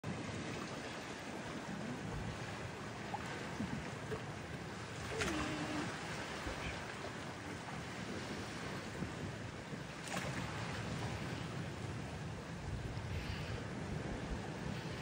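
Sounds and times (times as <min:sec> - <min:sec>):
sea water washing: 0:00.0 - 0:15.0
wind: 0:00.0 - 0:15.0.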